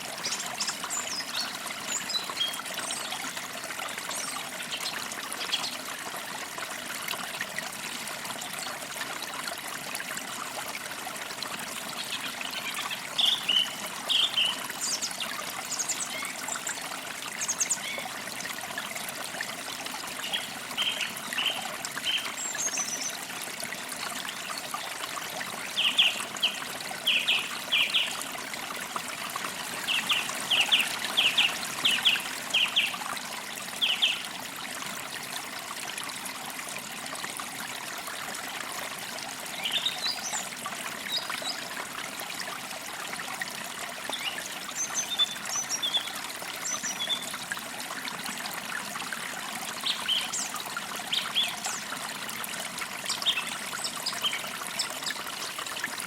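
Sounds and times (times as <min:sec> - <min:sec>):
creek trickling: 0:00.0 - 0:56.0.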